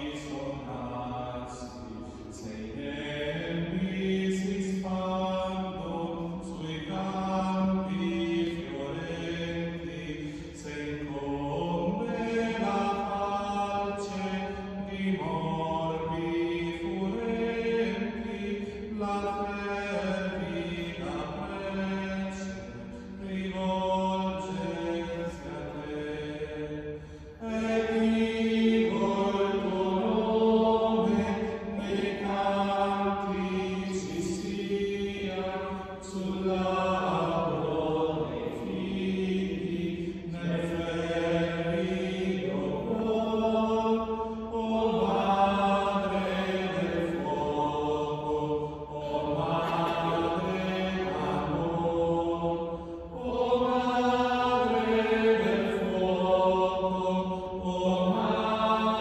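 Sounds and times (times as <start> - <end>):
men singing a hymn: 0.0 - 59.0.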